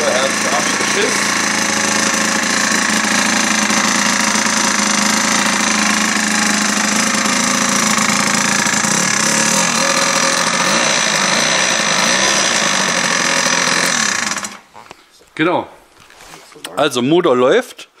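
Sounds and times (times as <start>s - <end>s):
scooter two-stroke engine running: 0.0s - 14.7s.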